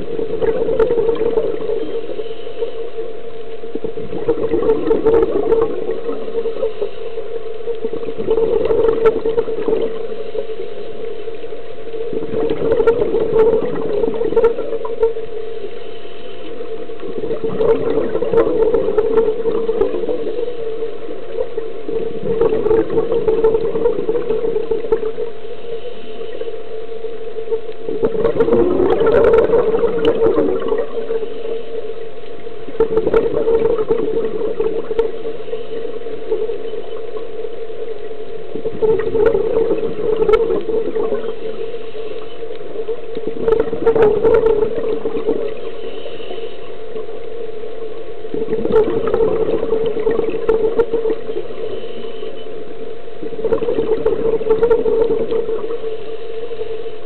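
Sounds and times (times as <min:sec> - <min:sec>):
steady hum: 0:00.0 - 0:57.0
underwater exhaled bubbles gurgling: 0:00.0 - 0:57.0.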